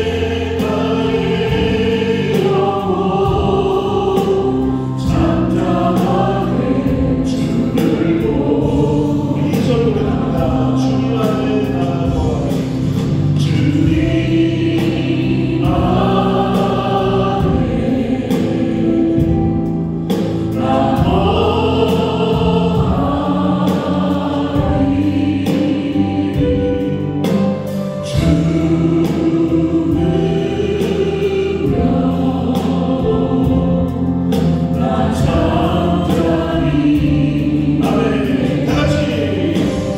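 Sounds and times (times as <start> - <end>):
bass guitar: 0.0 - 39.9
drum hits: 0.0 - 39.9
group singing worship song: 0.0 - 39.9
keyboard: 0.0 - 39.9.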